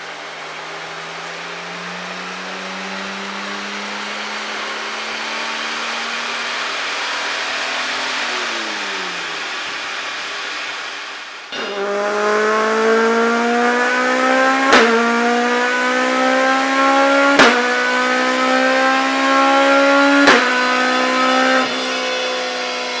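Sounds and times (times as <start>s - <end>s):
car engine on a dyno: 0.0s - 23.0s.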